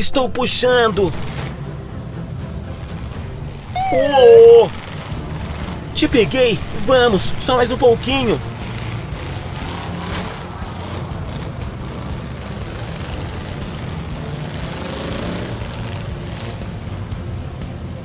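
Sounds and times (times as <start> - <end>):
car engine running: 1.7 - 18.0.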